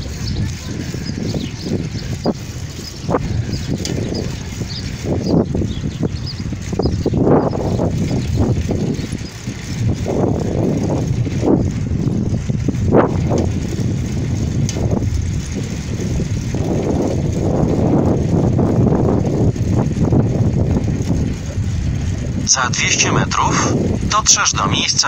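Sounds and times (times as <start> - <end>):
road rumble while riding: 0.0 - 25.0
wind buffeting microphone: 0.0 - 25.0.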